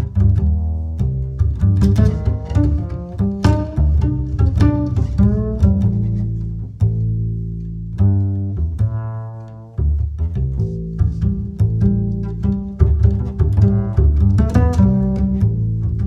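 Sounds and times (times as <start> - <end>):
deep sustained bass notes: 0.0 - 16.0
plucked notes: 0.0 - 16.0.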